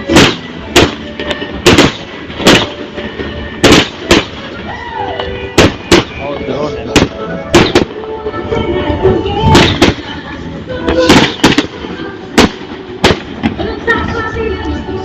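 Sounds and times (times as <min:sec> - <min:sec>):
fireworks bangs: 0:00.0 - 0:08.2, 0:09.4 - 0:14.4.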